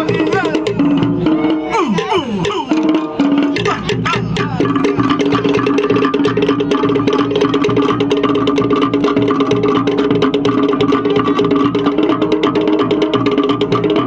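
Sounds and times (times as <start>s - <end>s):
deep drum beat: 0.0s - 14.0s
wooden slit drums struck rapidly: 0.0s - 14.0s.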